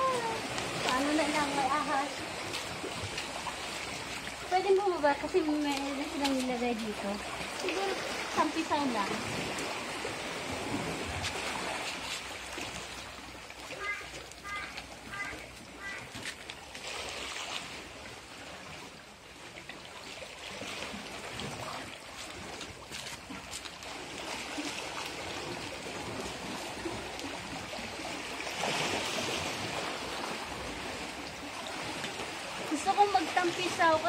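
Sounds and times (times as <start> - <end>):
sea water washing among rocks: 0.0 - 34.0.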